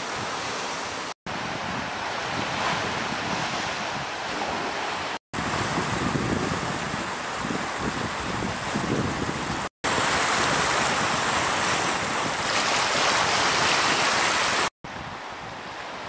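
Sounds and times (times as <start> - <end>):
sea waves breaking: 0.0 - 16.0
wind on microphone: 0.0 - 16.0.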